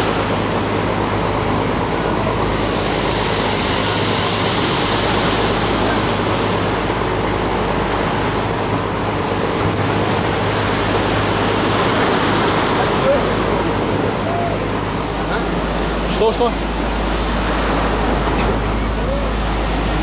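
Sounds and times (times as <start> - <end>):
ship engine humming: 0.0 - 20.0
water rushing against hull: 0.0 - 20.0.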